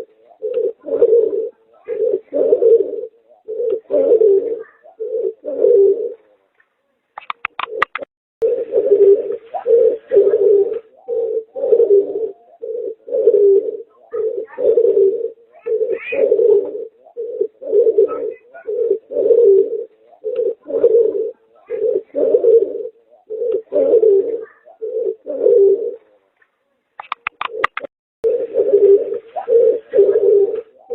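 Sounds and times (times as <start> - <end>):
pigeon cooing: 0.0 - 26.3, 27.0 - 30.9.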